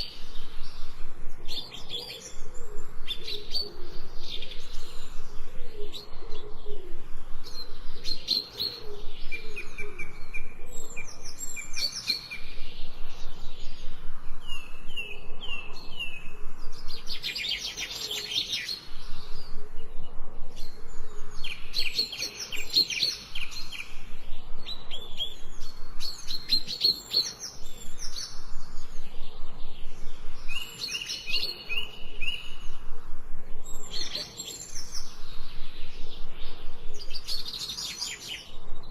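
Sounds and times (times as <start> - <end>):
faint steady hiss: 0.0 - 38.9
songbirds chirping and singing: 0.0 - 38.9.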